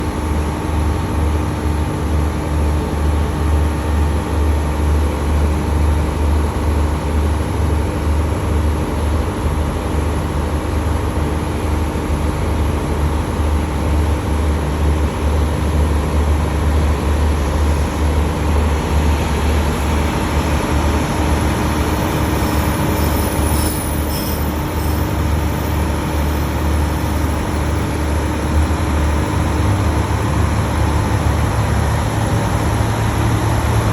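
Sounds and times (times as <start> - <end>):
diesel engine rumble: 0.0 - 33.9.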